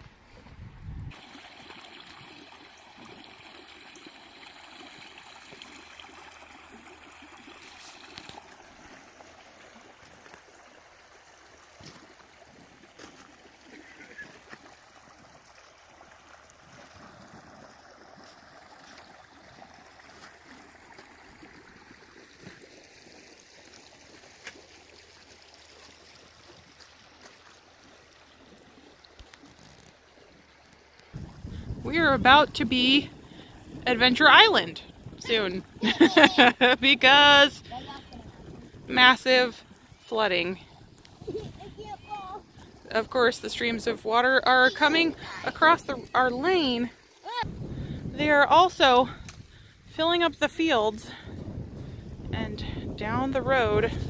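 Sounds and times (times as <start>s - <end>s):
stream water rushing: 1.1s - 51.4s
water trickling: 1.1s - 54.0s.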